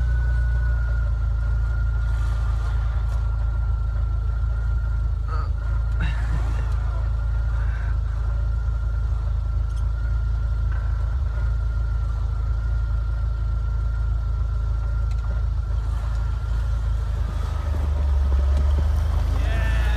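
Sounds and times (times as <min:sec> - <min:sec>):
thin steady whine: 0:00.0 - 0:19.9
truck engine low rumble: 0:00.0 - 0:19.9.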